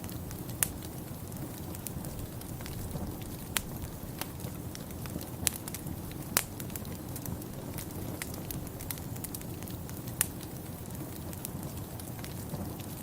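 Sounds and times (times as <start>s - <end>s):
sharp pops of fire: 0.0s - 13.0s
wood fire crackling: 0.0s - 13.0s.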